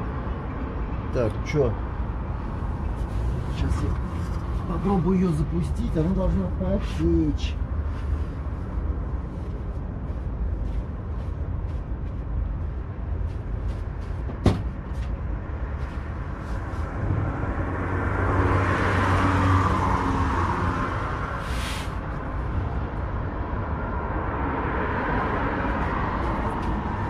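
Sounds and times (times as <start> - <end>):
low road rumble: 0.0 - 27.0
vehicle passing: 1.9 - 27.0.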